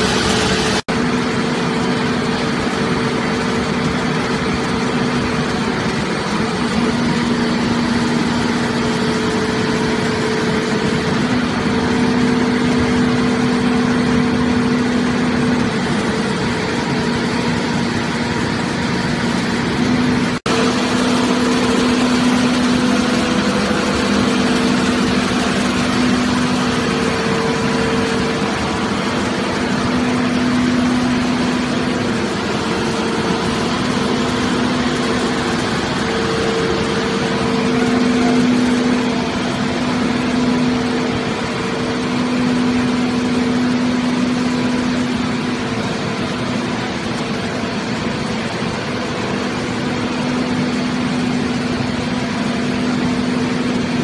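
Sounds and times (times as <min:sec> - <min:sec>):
hydraulic machine humming: 0:00.0 - 0:54.0.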